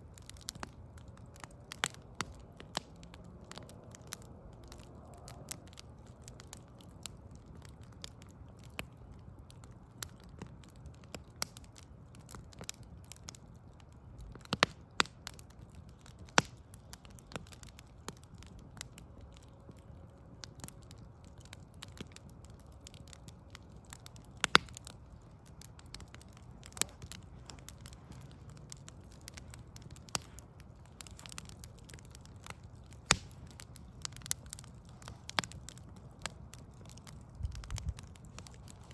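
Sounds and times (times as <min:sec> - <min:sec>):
low background rumble: 0:00.0 - 0:38.9
wood fire crackling and popping: 0:00.0 - 0:38.9.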